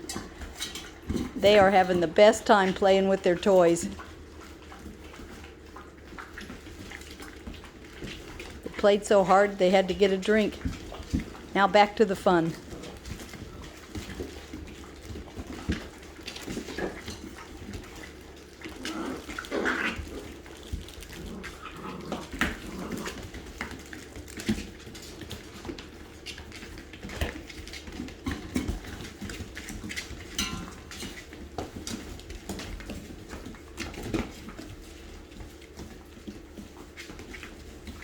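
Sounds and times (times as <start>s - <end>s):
puppies scuffling with toys: 0.0s - 38.0s.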